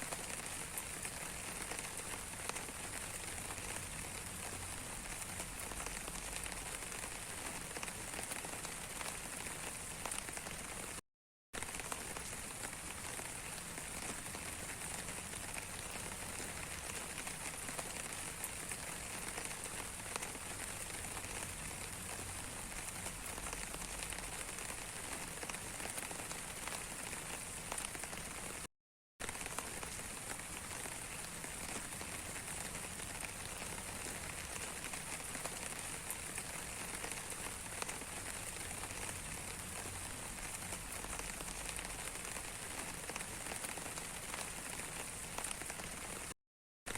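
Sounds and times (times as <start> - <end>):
rain falling on a surface: 0.0 - 11.0, 11.6 - 46.9.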